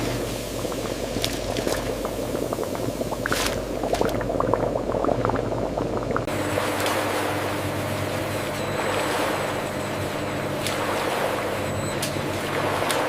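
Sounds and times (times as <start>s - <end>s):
liquid boiling and bubbling: 0.0s - 13.0s
low machine hum: 0.0s - 13.0s.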